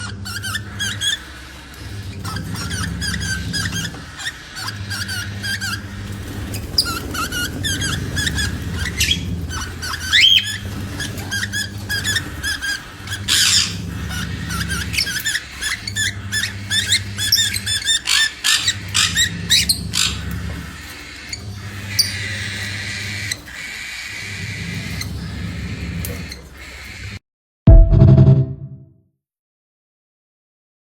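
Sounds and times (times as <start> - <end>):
cockatiel chirping and warbling: 0.0 - 27.0.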